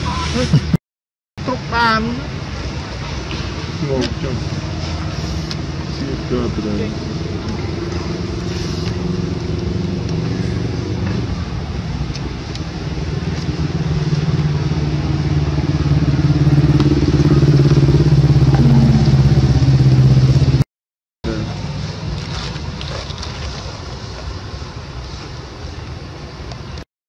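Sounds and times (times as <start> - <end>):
engine humming steadily: 1.4 - 20.6, 21.3 - 26.8.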